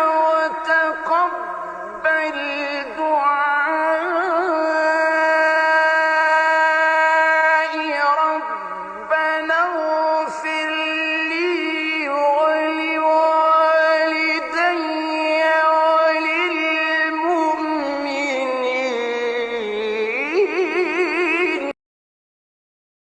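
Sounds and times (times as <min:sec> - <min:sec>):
man chanting melodically: 0:00.0 - 0:21.8.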